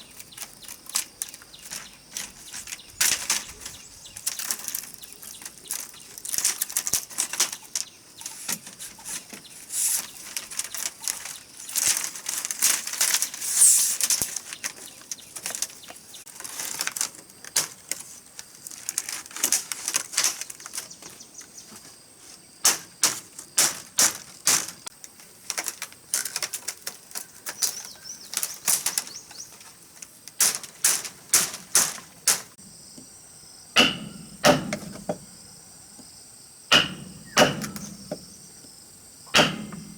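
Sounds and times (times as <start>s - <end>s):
dry material rustling and crackling: 0.0s - 32.6s.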